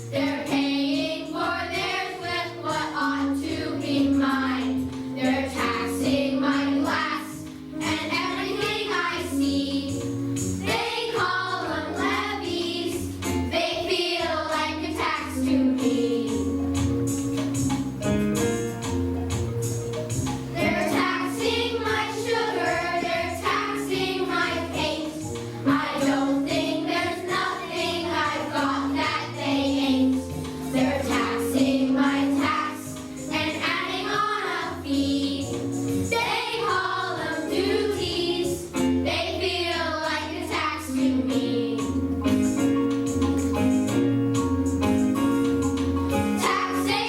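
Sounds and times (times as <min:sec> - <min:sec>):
children singing with music: 0:00.0 - 0:47.0.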